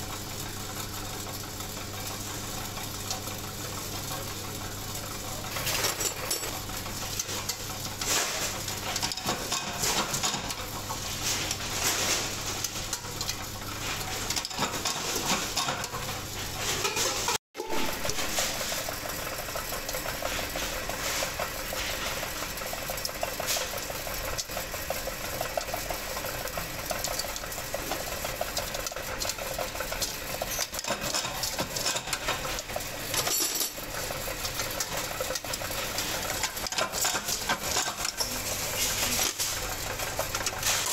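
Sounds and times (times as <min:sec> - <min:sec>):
machine rhythmic chatter: 0:00.0 - 0:40.9.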